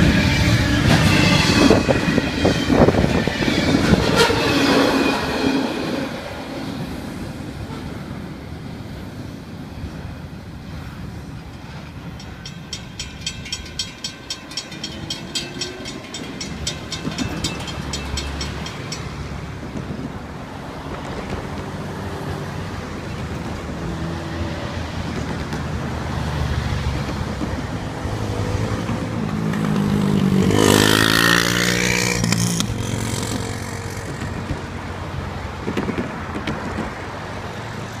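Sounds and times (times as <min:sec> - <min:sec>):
freight train passing: 0:00.0 - 0:38.0
road traffic: 0:00.0 - 0:38.0.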